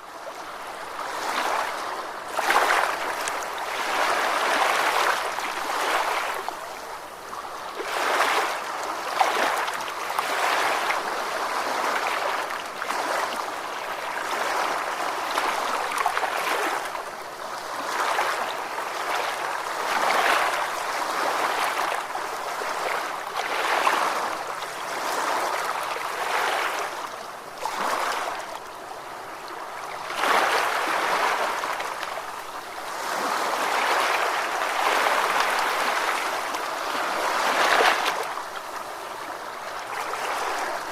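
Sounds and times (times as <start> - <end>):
ocean waves washing onto shore: 0.0 - 40.9.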